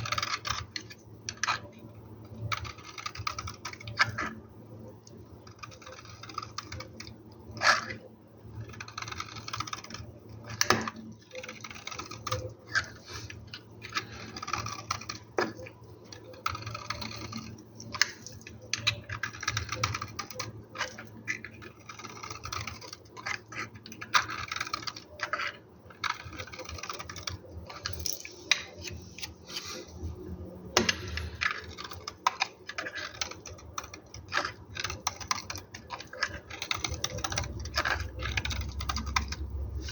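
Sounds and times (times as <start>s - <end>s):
knife crunching through soap: 5.4s - 8.0s, 8.6s - 28.8s, 30.8s - 39.9s.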